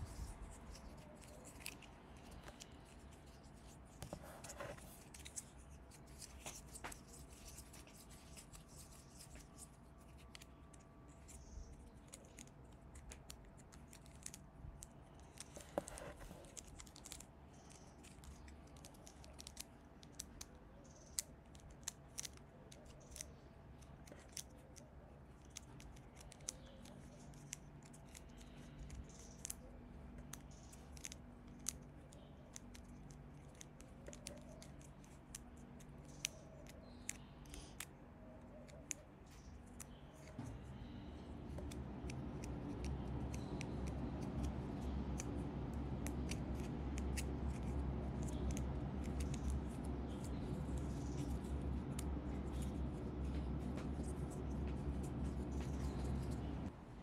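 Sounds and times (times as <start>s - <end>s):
kitten claws scuffling on asphalt: 0.0s - 56.7s
faint steady hum: 0.0s - 57.0s.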